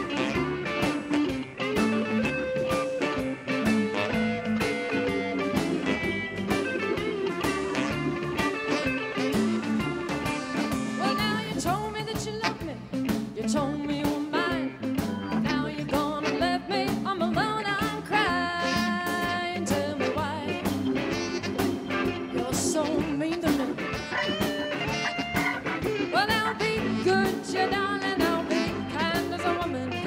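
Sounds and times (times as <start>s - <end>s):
drum kit: 0.0s - 30.0s
electric guitar: 0.0s - 30.0s.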